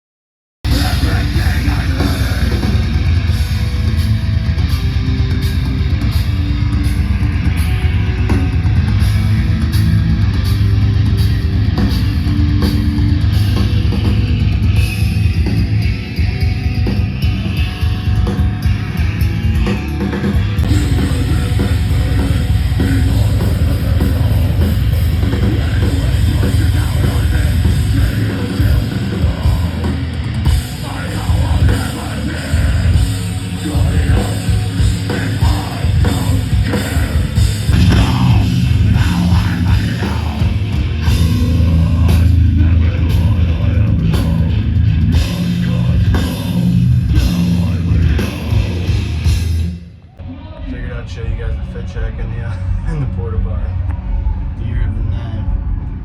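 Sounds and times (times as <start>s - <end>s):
distorted electric guitars: 0.6s - 56.0s
live heavy metal band: 0.6s - 56.0s
pounding drums: 0.7s - 49.8s.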